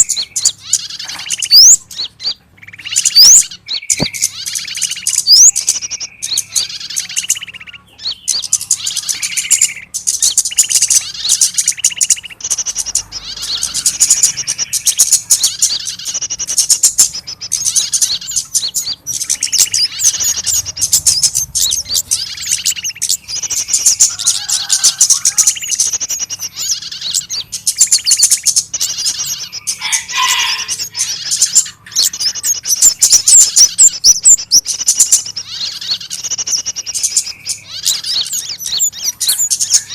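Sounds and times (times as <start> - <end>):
lower bird calls: 0.0 - 39.9
small birds chirping: 0.0 - 39.9.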